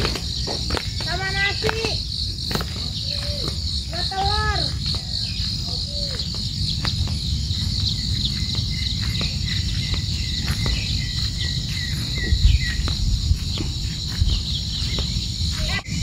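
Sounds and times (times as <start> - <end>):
insects chirping: 0.0 - 16.0
low bumps: 0.0 - 16.0.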